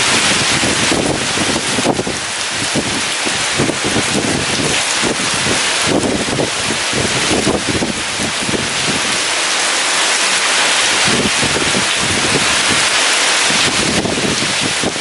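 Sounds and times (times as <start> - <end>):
heavy rain pouring: 0.0 - 15.0
wind gusts buffeting: 0.0 - 15.0.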